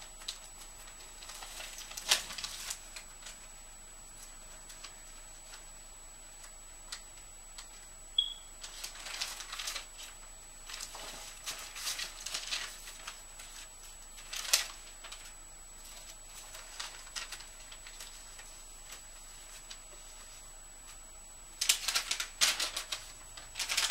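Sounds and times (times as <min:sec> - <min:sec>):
paper rustling and crinkling: 0:00.0 - 0:07.9, 0:08.6 - 0:23.9.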